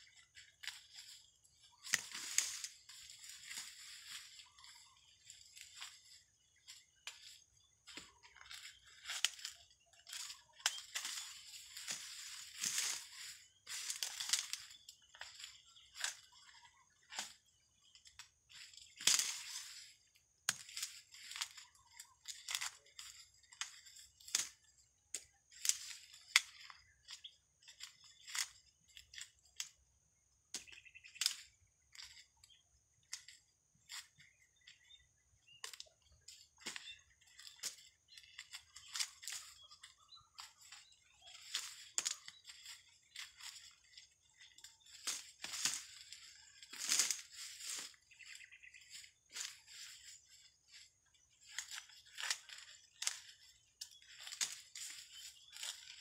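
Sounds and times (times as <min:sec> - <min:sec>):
dry corn husks crackling and tearing: 0:00.0 - 0:56.0.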